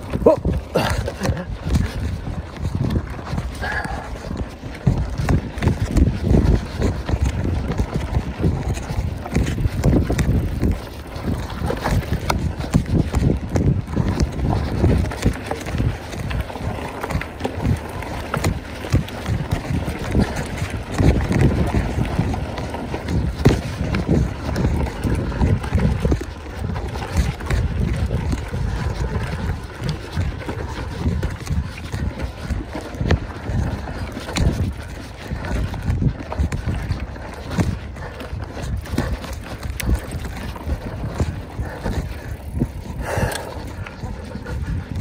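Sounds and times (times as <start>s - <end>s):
mountain bike rattling: 0.0s - 45.0s
wind on microphone: 0.0s - 45.0s.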